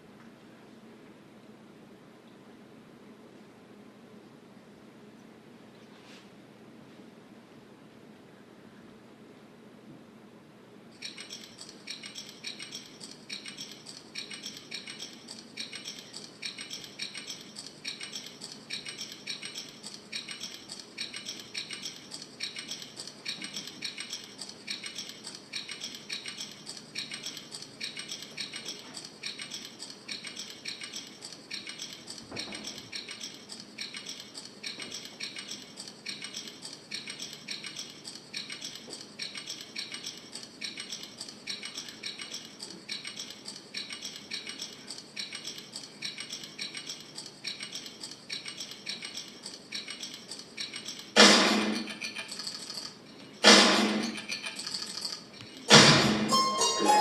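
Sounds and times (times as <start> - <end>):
rhythmic metallic rattling: 11.0 - 57.0.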